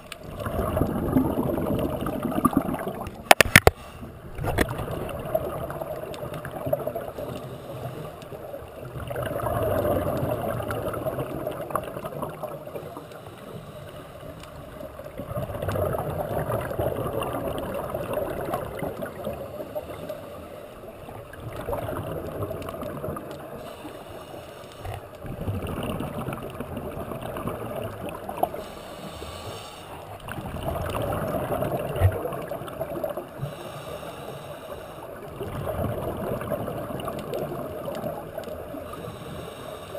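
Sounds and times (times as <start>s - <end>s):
exhaled bubbles gurgling: 0.0s - 13.2s, 14.2s - 23.8s, 24.8s - 34.1s, 34.7s - 39.7s
steady watery hiss: 0.0s - 15.2s, 15.9s - 39.9s.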